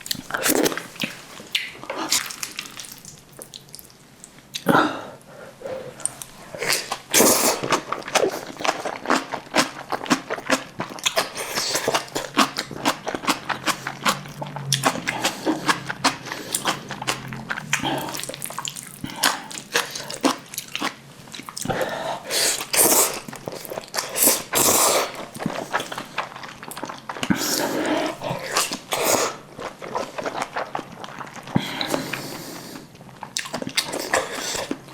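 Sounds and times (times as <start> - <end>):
close-miked chewing and eating: 0.0 - 4.7, 5.6 - 34.9.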